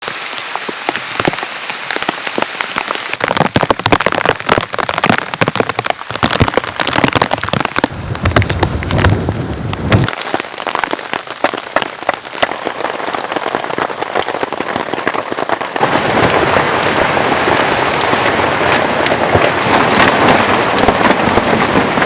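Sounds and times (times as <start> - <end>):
heavy rain: 0.0 - 22.0
raindrops tapping on a surface: 0.0 - 22.0.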